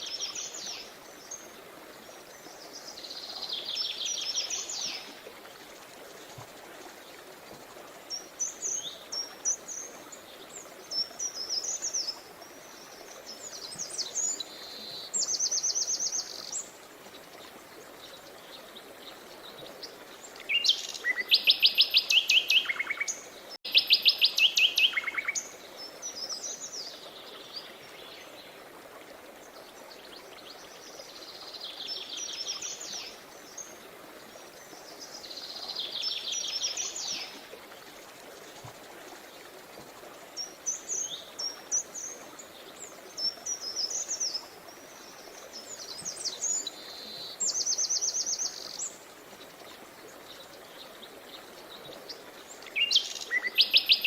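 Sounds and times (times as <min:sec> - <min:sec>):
songbirds singing and trilling: 0:08.0 - 0:28.6, 0:29.4 - 0:54.0.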